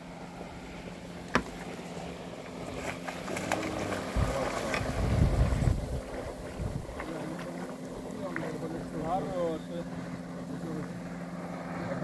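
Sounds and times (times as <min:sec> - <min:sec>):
steady low hum: 0:00.0 - 0:12.0
water splashing against boat: 0:00.0 - 0:12.0.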